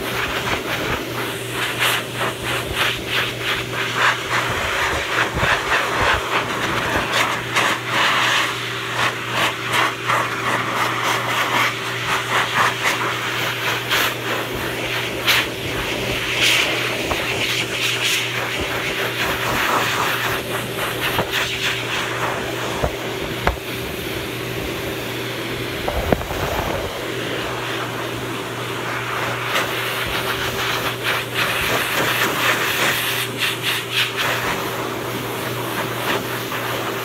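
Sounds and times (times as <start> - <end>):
pet dryer blowing air: 0.0 - 37.0.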